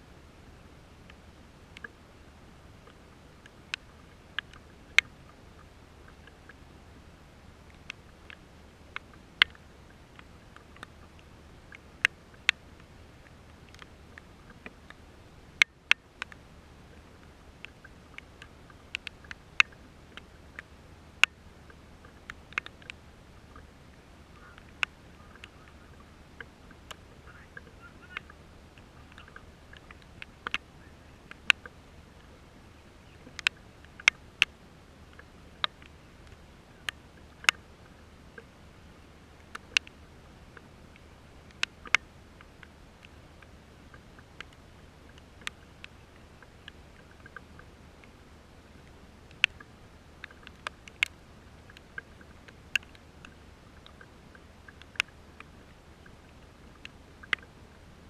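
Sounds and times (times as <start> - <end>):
faint steady hiss: 0.0 - 58.0
faint steady hum: 0.0 - 58.0
raindrops tapping: 0.9 - 57.5.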